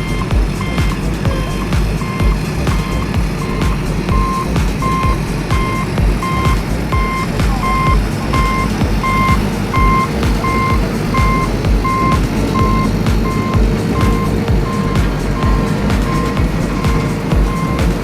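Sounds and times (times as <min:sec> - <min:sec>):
toy reversing beeper: 0:00.0 - 0:18.0.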